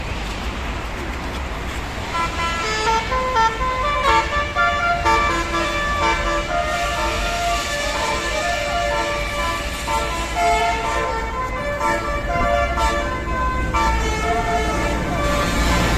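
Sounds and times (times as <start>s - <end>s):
musical air horn melody: 2.1s - 15.9s.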